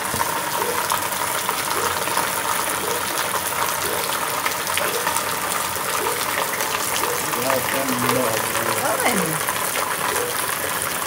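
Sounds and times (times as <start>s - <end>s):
heavy rain pouring: 0.0s - 11.0s
raindrops tapping surfaces: 0.0s - 11.0s.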